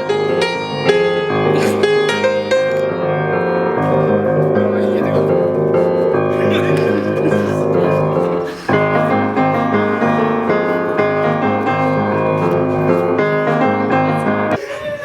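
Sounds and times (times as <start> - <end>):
piano music: 0.0 - 14.6.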